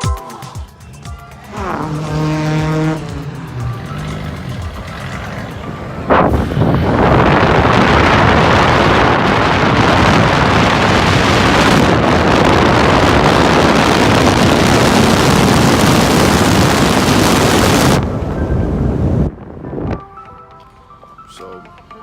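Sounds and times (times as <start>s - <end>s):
low rumble: 1.0s - 19.9s
wind buffeting microphone: 1.6s - 20.1s.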